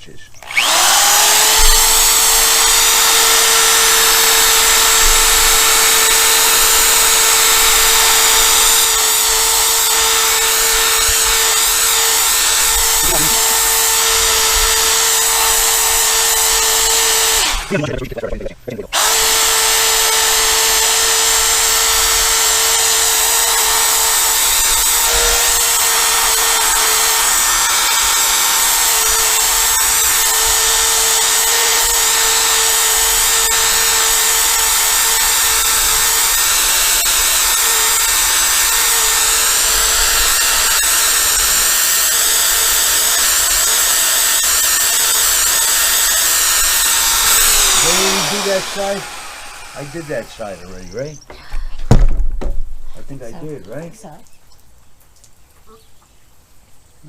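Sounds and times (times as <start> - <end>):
power drill sanding plastic: 0.4 - 18.2, 18.8 - 51.2.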